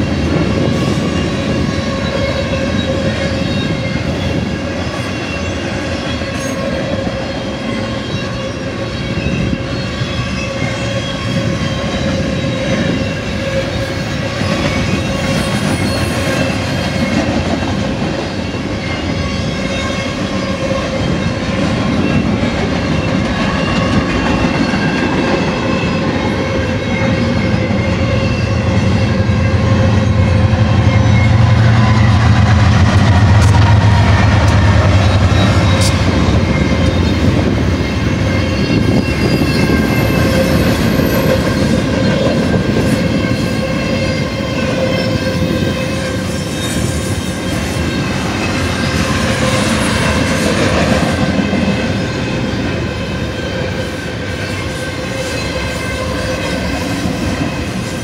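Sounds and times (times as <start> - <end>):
diesel locomotive drone: 0.0 - 58.0
train wheels rumbling on rails: 0.0 - 58.0.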